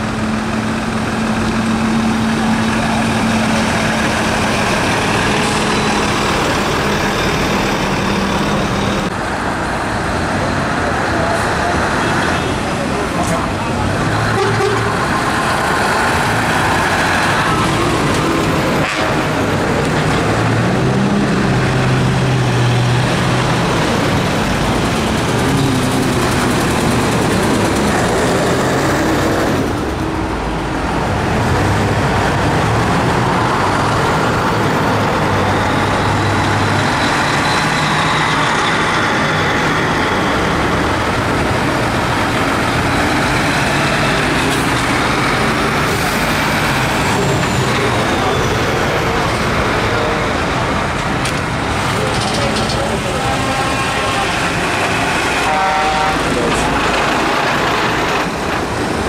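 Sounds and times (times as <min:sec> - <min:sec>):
diesel trucks driving past: 0:00.0 - 0:59.0.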